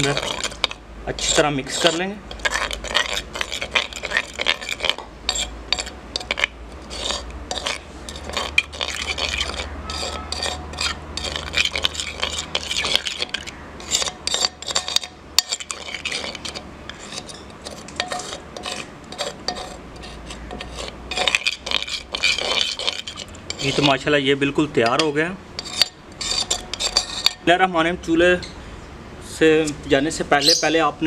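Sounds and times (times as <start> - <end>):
spoon scraping clay bowl: 0.0 - 27.5.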